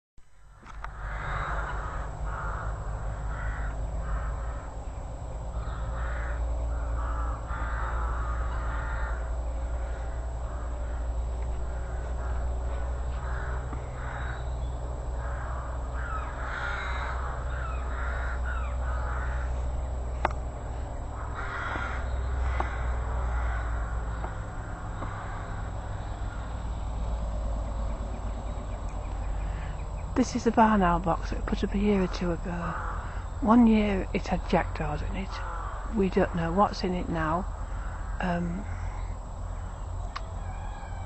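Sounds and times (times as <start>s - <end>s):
steady low rumble: 0.2s - 41.0s
rooks and crows cawing: 0.5s - 41.0s.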